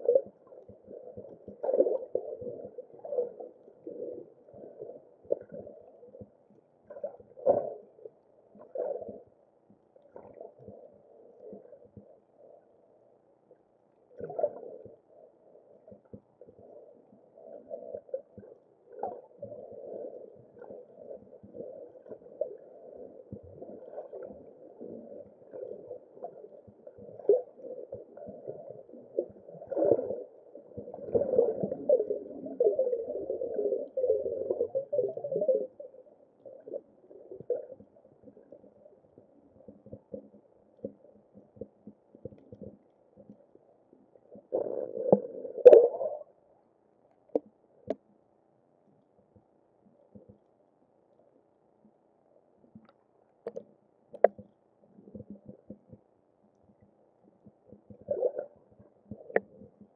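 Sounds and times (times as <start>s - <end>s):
underwater bubbling and sloshing: 0.0s - 59.9s.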